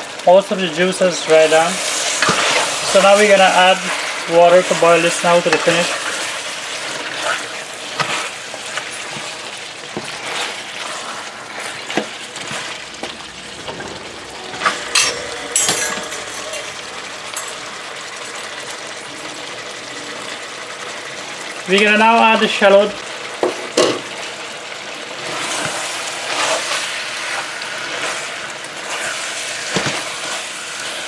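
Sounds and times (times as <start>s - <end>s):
curry sizzling in a pot: 0.0s - 31.0s.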